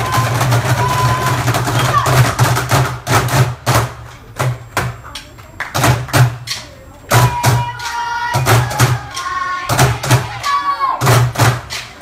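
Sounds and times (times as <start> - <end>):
group drumming: 0.0 - 5.0, 5.7 - 12.0.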